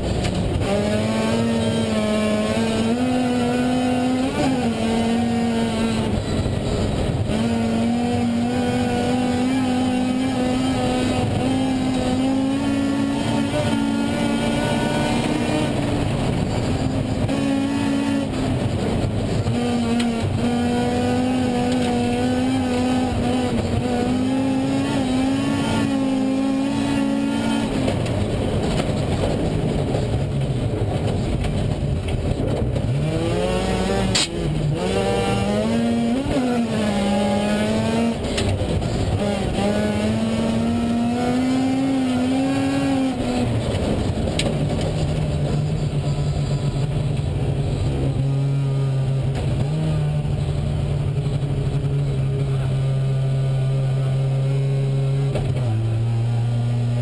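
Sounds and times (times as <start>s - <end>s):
rally car engine revving: 0.0s - 57.0s
tyre and road noise: 0.0s - 57.0s.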